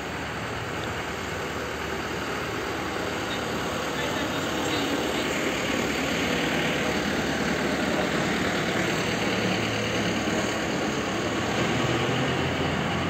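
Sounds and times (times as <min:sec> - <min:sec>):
freight train rolling past: 0:01.3 - 0:13.0.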